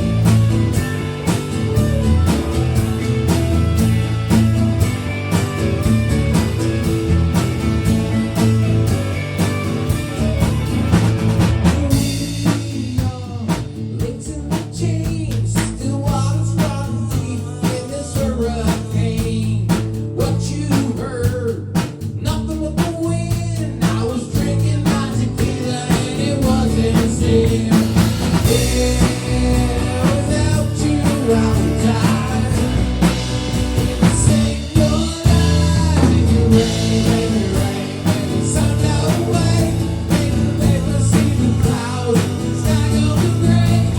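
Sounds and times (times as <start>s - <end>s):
rock song with singing: 0.0s - 43.9s.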